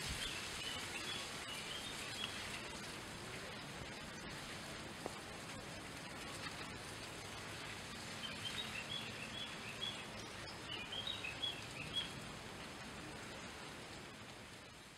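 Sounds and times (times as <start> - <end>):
steady outdoor hiss: 0.0 - 14.9.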